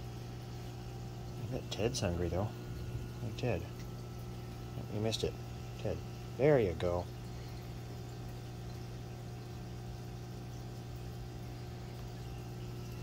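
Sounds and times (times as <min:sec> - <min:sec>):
air pump humming: 0:00.0 - 0:13.0.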